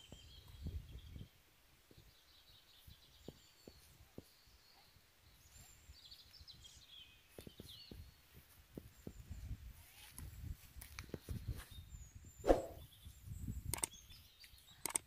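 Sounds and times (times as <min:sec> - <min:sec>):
soft bird chirps: 0:00.0 - 0:15.0.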